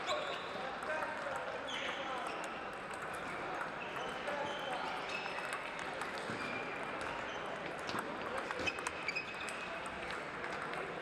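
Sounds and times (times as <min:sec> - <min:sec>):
table tennis balls clicking: 0:00.8 - 0:11.0.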